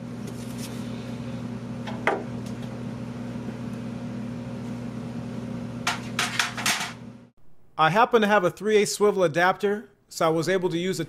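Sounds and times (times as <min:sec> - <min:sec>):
steady low electrical hum: 0:00.0 - 0:11.0.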